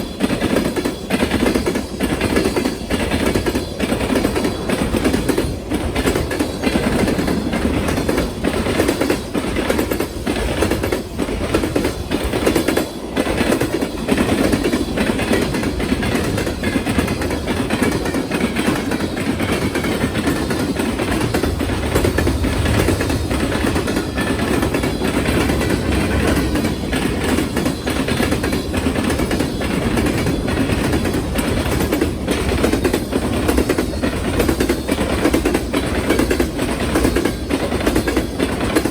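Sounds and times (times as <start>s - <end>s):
train cars rumbling: 0.0s - 38.9s
train wheels clattering: 0.0s - 38.9s.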